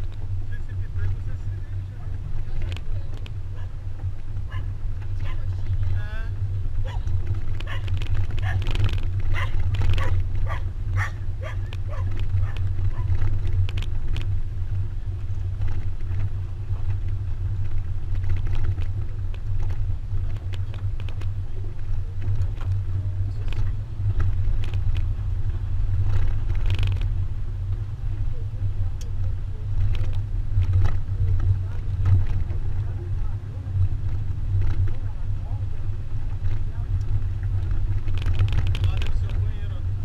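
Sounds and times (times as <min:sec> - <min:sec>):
pickup truck running: 0:00.0 - 0:40.0
wind buffeting microphone: 0:00.0 - 0:40.0.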